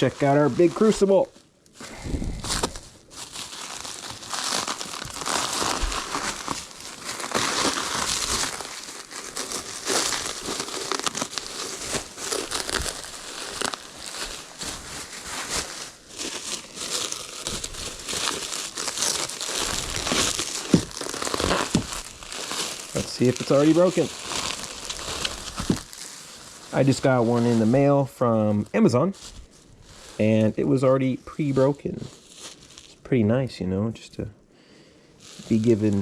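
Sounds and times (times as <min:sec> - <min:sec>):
packing material crumpling and tearing: 0:00.0 - 0:33.0, 0:35.2 - 0:36.0.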